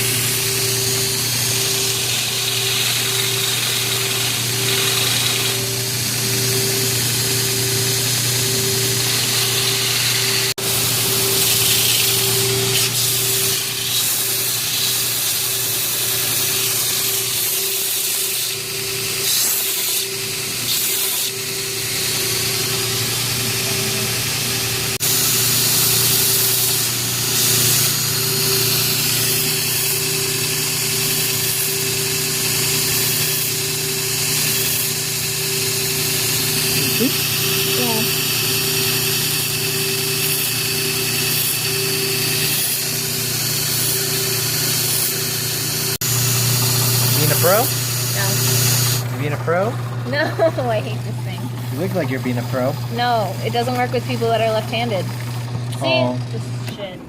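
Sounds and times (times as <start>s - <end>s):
power tool grinding: 0.0s - 57.0s.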